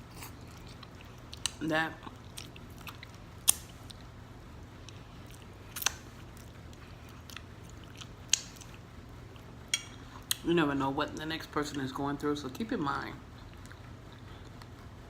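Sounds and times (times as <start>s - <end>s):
chewing food: 0.0s - 10.4s, 13.2s - 15.0s.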